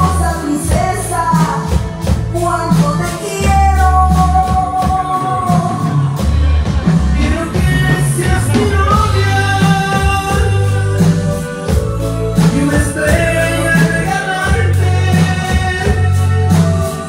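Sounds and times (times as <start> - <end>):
live band over pa: 0.0 - 17.0.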